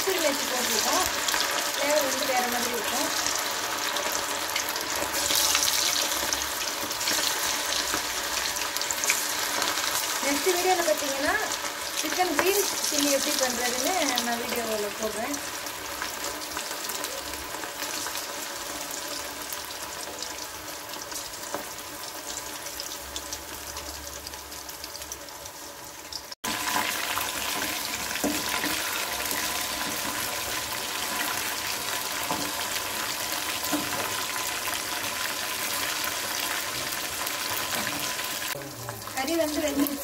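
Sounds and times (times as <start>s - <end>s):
chicken deep-frying in oil: 0.0s - 40.0s.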